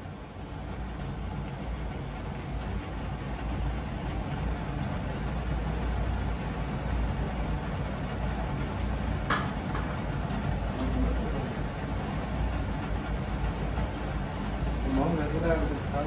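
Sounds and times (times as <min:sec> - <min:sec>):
gas burner flame rumbling: 0:00.0 - 0:16.0.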